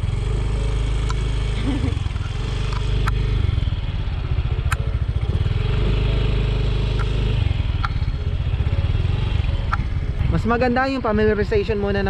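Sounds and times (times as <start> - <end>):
scooter engine hum: 0.0 - 12.0.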